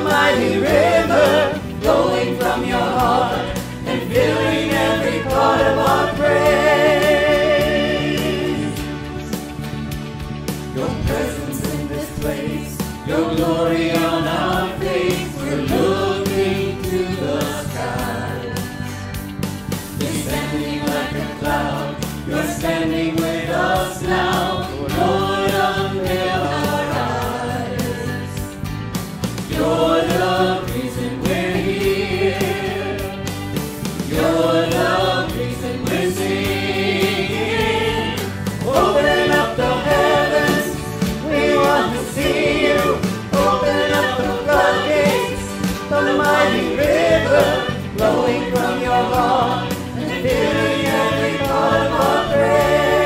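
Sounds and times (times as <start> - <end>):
mixed choir singing: 0.0 - 9.8, 10.5 - 53.0
band with electric bass: 0.0 - 53.0.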